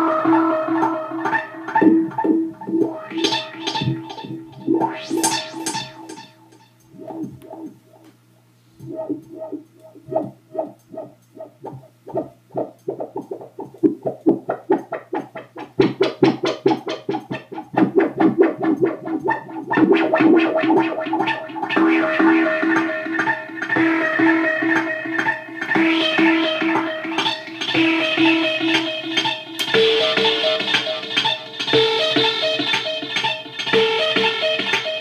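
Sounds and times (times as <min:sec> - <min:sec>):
stuttering pitched synth pulses: 0:00.0 - 0:08.0, 0:08.8 - 0:31.3
sustained synth wash: 0:00.0 - 0:08.0, 0:08.7 - 0:32.6.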